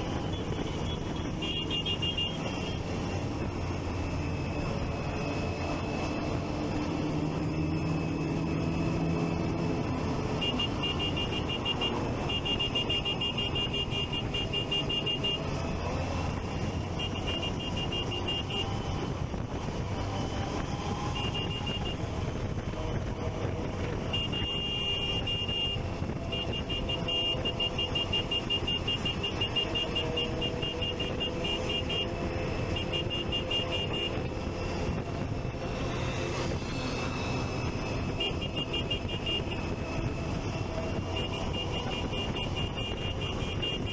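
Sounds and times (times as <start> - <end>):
motorcycle engines: 0.0 - 43.9
traffic: 0.0 - 43.9.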